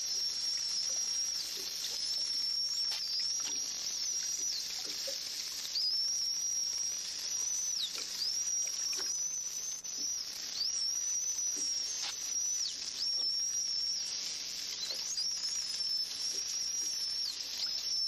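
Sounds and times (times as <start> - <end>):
dolphins whistling: 0.0 - 18.0
steady hiss: 0.0 - 18.0.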